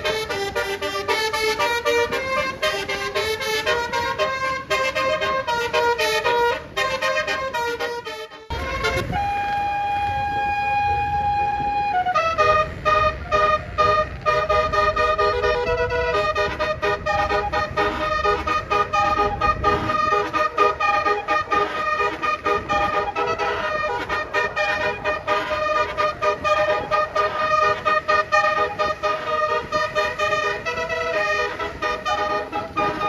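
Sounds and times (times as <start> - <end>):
bus multi-trumpet horn melody: 0.0 - 33.0
low engine rumble: 0.0 - 33.0.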